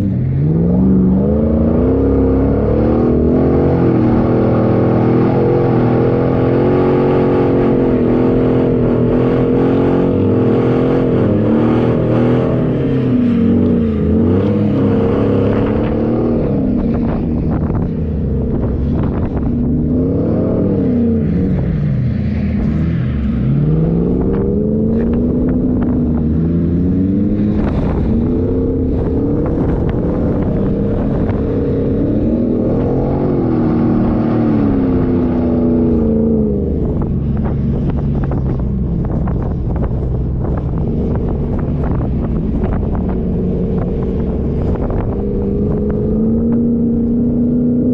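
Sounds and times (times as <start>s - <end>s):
vehicle engine revving under load: 0.0s - 47.9s.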